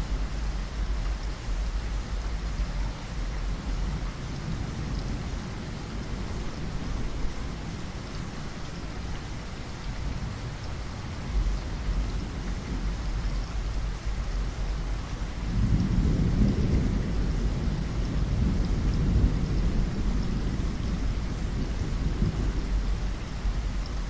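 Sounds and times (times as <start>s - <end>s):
rain hissing: 0.0s - 24.0s
thunder rumbling: 3.4s - 9.1s, 10.0s - 24.0s.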